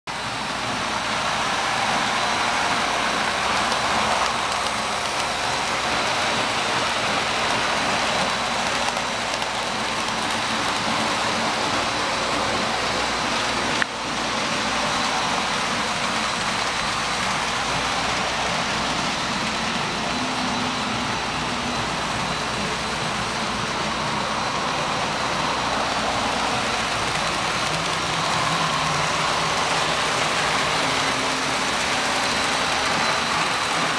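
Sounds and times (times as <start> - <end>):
model train wheels whirring: 0.1 - 33.9.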